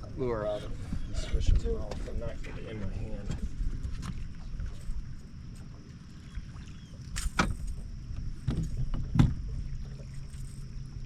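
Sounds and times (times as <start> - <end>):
knocks and clunks in a boat: 0.0 - 11.0
low steady rumble: 0.0 - 11.0.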